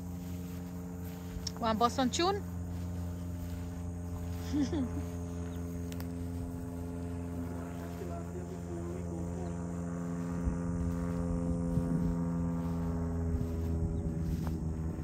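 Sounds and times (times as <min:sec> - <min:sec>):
insects chirping: 0:00.0 - 0:15.0
steady low tonal hum: 0:00.0 - 0:15.0.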